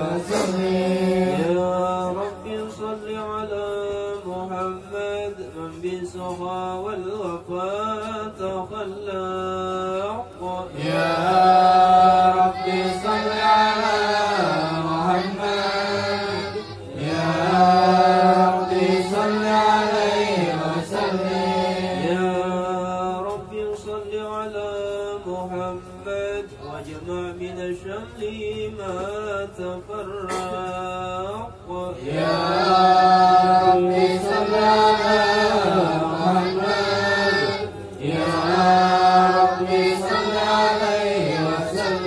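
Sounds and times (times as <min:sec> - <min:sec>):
men chanting: 0:00.0 - 0:42.0.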